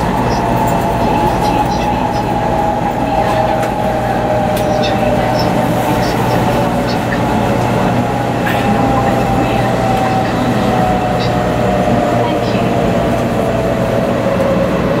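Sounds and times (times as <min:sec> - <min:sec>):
train cabin rush and rumble: 0:00.0 - 0:15.0.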